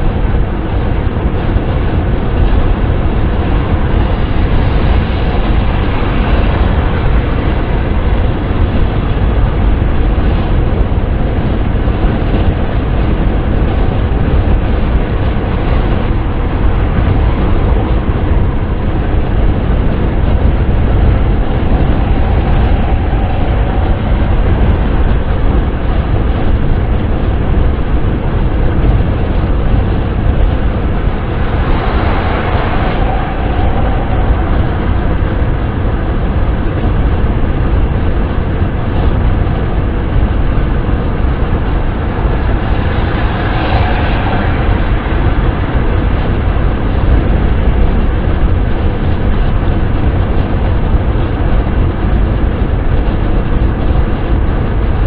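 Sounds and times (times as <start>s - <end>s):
car wind and road noise: 0.0s - 55.0s.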